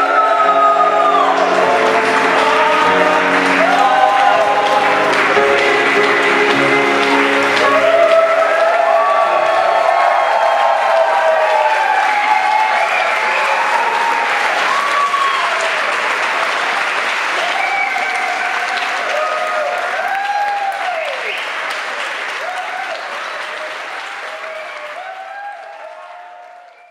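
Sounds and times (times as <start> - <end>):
people cheering: 0.0 - 26.9
audience applauding: 1.0 - 26.9.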